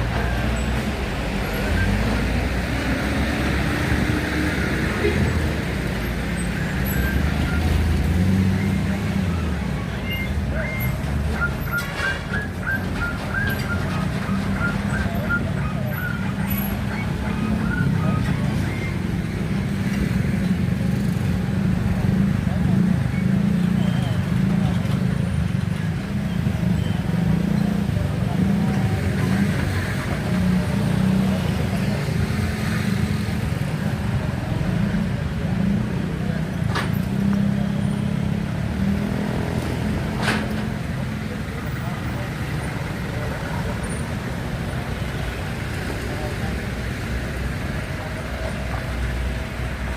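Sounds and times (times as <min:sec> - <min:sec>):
traffic engines rumbling: 0:00.0 - 0:49.9.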